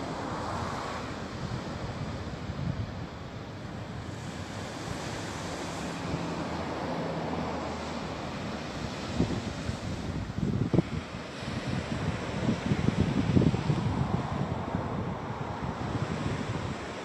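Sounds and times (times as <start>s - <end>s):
small waves washing onto shore: 0.0s - 17.0s.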